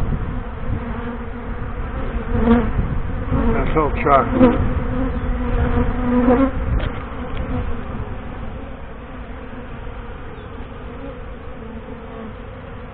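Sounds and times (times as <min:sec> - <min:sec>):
honey bees buzzing: 0:00.0 - 0:12.9.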